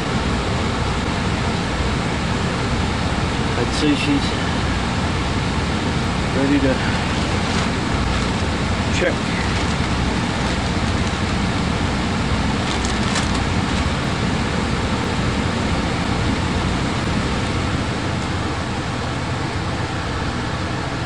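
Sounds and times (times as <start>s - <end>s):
gas furnace rushing: 0.0s - 21.0s.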